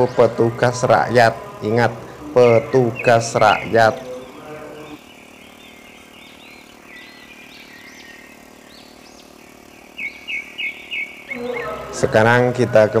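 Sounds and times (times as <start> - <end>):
birds chirping: 0.0 - 13.0
faint engine hum: 0.0 - 13.0.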